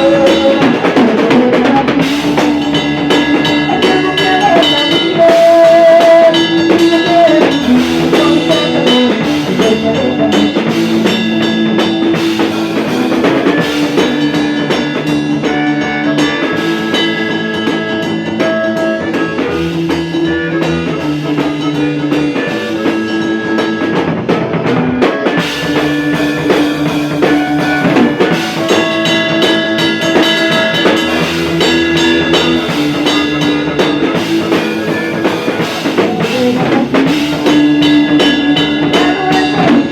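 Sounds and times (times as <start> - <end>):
drum kit beat: 0.0 - 39.9
rock guitar: 0.0 - 39.9.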